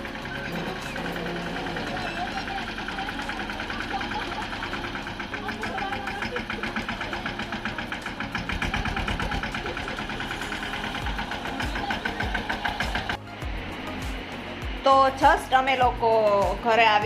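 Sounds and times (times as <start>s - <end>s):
engine running with rapid knocking: 0.0s - 17.0s.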